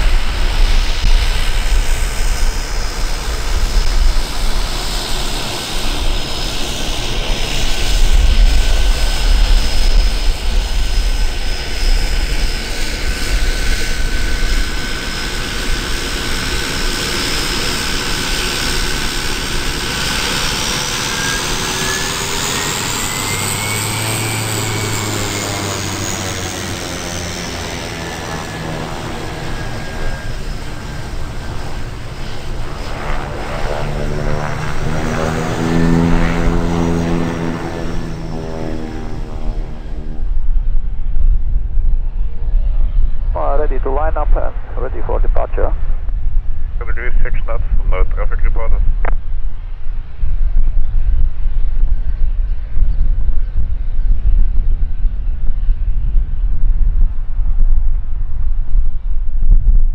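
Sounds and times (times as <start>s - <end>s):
turboprop aircraft taxiing: 0.0s - 59.9s.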